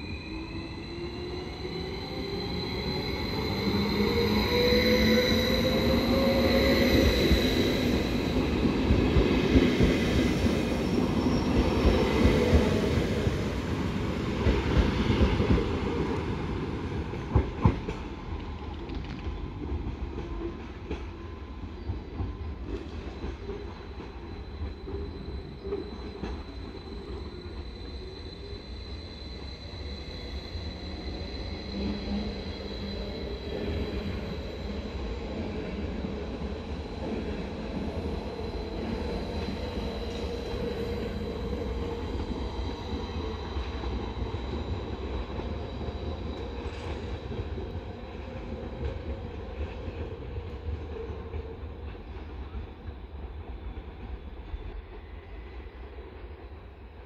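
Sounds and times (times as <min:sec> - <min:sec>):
electric train passing: 0:00.0 - 0:57.0.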